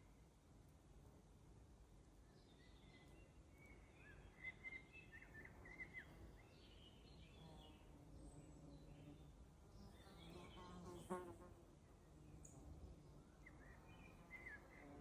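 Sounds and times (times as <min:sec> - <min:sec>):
songbird singing faintly: 0:02.2 - 0:15.0.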